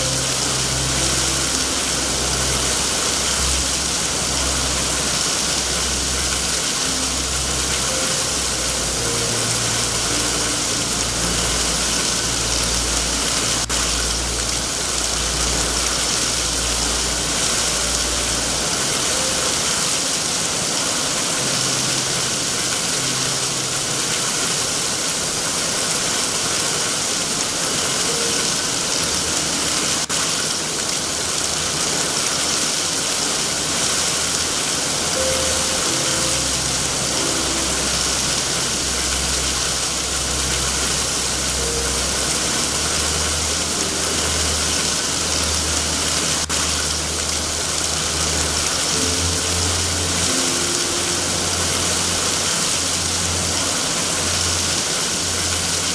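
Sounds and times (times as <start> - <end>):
heavy rain hiss: 0.0 - 55.9.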